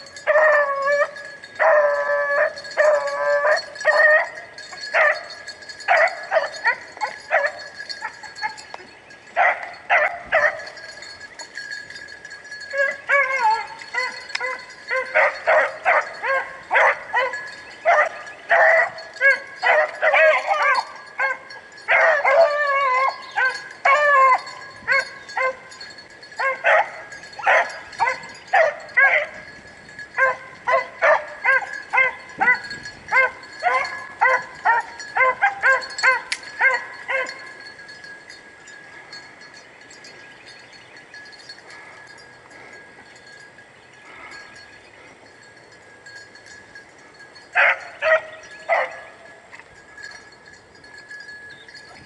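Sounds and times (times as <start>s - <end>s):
dogs barking and yipping: 0.0s - 52.0s.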